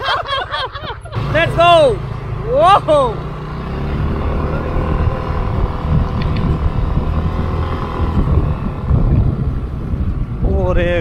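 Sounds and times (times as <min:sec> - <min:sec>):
motor scooter engine rumble: 0:00.2 - 0:11.0.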